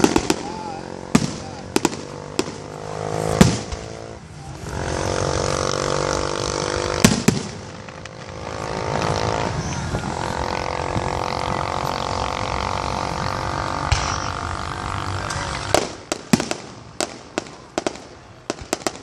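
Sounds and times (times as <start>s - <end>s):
steady pitched drone: 0.0s - 18.2s
fireworks bangs: 0.0s - 19.0s.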